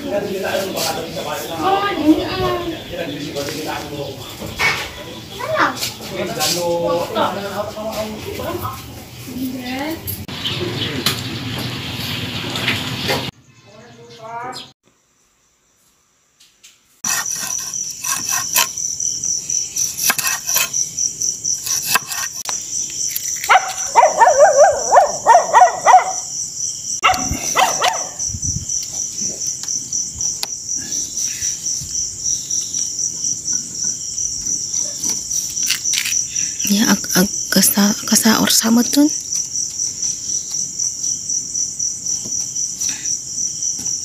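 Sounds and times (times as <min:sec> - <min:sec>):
crickets chirping: 0:00.0 - 0:12.0, 0:13.3 - 0:44.0.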